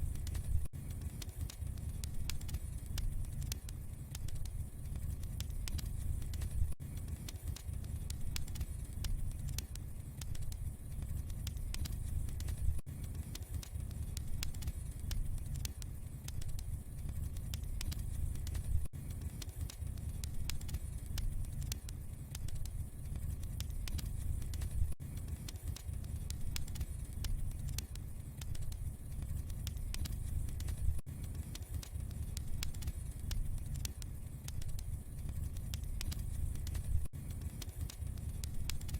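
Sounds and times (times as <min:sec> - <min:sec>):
low rumble of burning fire: 0:00.0 - 0:38.9
wood fire crackling: 0:00.0 - 0:38.9.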